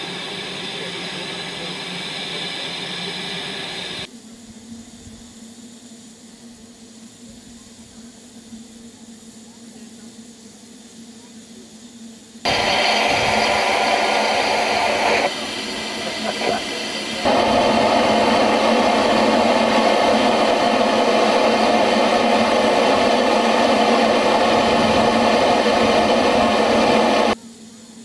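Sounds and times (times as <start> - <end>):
steam locomotive hissing steam: 0.0 - 28.0.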